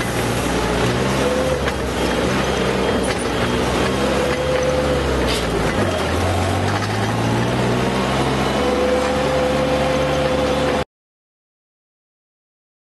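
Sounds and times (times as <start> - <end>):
excavator diesel engine: 0.0 - 10.9.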